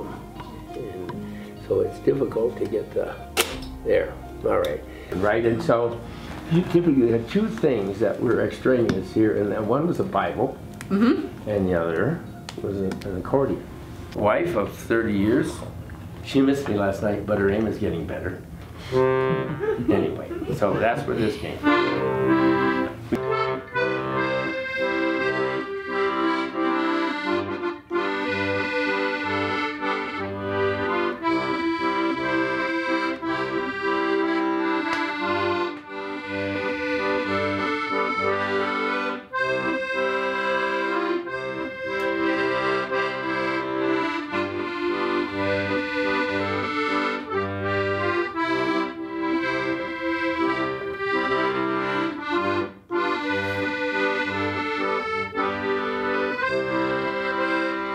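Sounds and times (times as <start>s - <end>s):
accordion playing: 0.0s - 57.9s.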